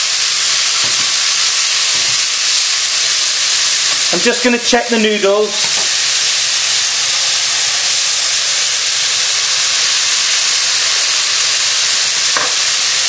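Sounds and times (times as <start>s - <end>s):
pot of water boiling: 0.0s - 13.0s
vegetables sizzling in frying pan: 0.0s - 13.0s.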